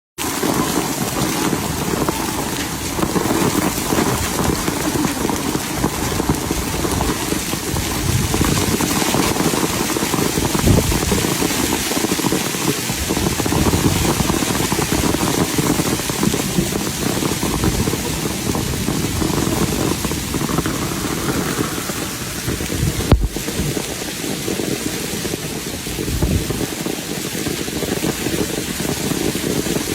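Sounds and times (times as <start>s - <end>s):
steady rain: 0.2s - 29.9s.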